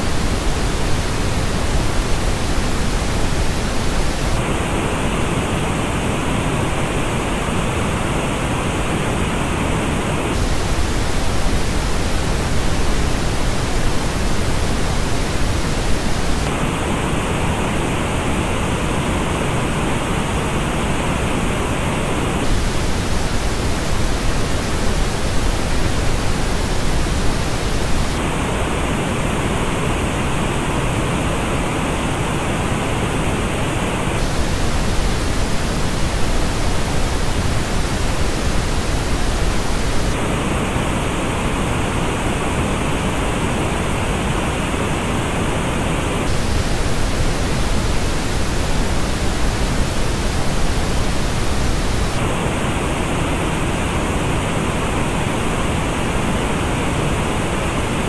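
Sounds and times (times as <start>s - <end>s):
steady pink noise: 0.0s - 58.0s.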